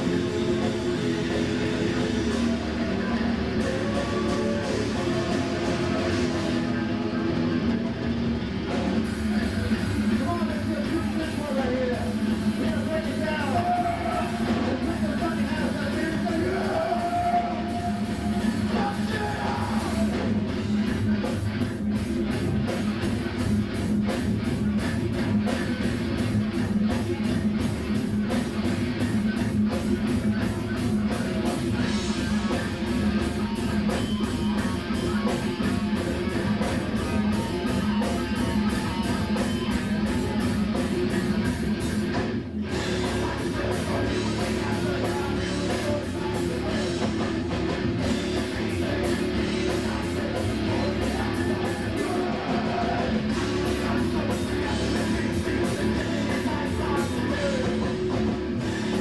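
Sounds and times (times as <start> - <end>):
bass guitar: 0.0 - 59.0
drum kit beat: 0.0 - 59.0
electric guitars: 0.0 - 59.0.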